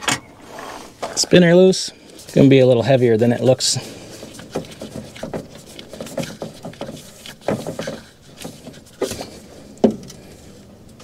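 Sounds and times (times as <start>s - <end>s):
oil filter scraping and clicking: 2.0s - 11.0s.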